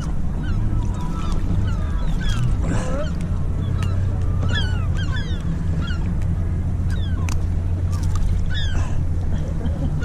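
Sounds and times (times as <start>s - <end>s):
gulls calling: 0.0s - 10.0s
steady low rumble: 0.0s - 10.0s.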